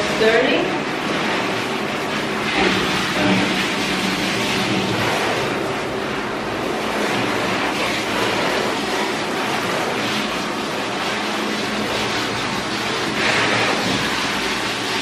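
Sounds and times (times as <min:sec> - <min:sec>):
shower sprayer running: 0:00.0 - 0:15.0
water splashing in metal tub: 0:00.0 - 0:15.0.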